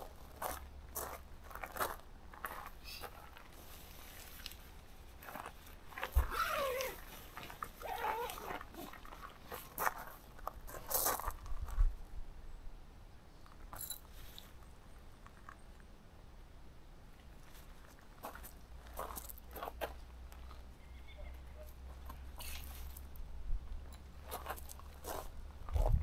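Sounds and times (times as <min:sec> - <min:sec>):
gravel crunching: 0:00.0 - 0:12.0, 0:17.2 - 0:26.0.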